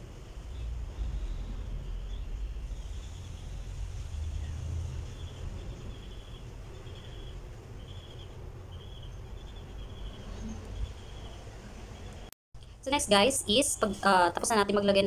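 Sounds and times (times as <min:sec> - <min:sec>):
low rumble: 0:00.0 - 0:12.3.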